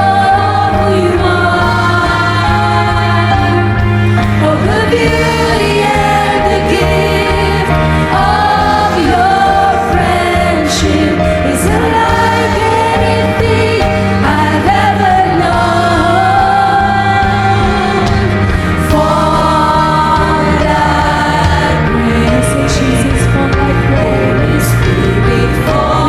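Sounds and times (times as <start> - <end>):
live worship band with singing: 0.0 - 26.0.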